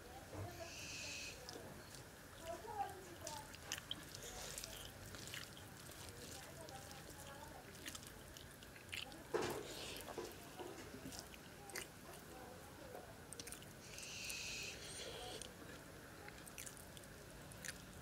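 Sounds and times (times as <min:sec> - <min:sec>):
faint chewing: 0:00.5 - 0:18.0.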